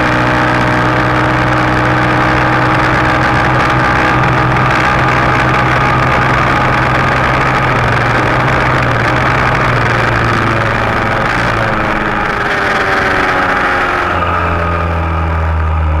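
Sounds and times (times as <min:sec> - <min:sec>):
single-cylinder engine running: 0:00.0 - 0:16.0.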